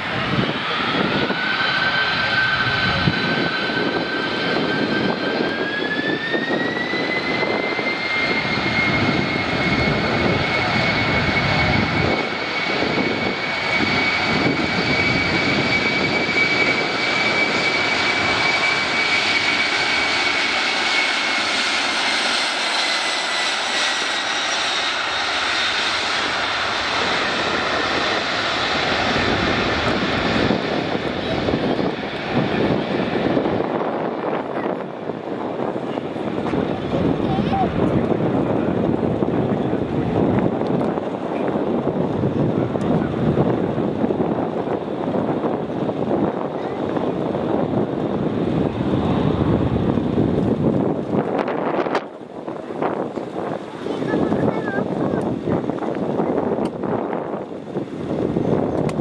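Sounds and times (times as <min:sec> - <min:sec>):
jet engines whining: 0:00.0 - 0:59.0
jet roar: 0:00.0 - 0:59.0.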